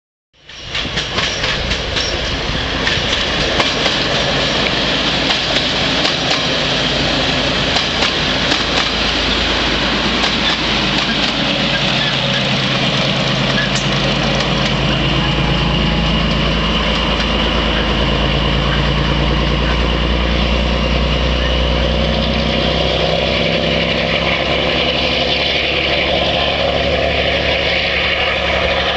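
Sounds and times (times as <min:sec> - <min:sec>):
diesel locomotive engine: 0:00.4 - 0:28.9.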